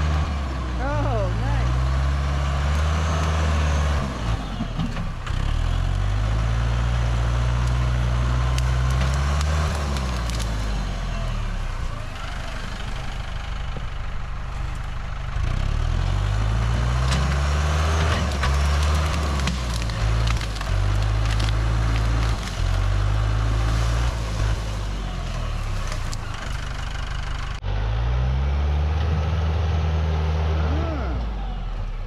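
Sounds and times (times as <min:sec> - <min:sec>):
tractor engine revving: 0:00.0 - 0:32.0.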